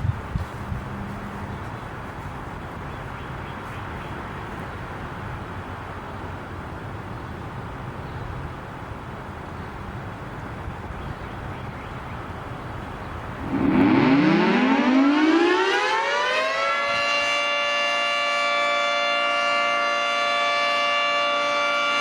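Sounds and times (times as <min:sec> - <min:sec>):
road traffic hiss: 0:00.0 - 0:22.0.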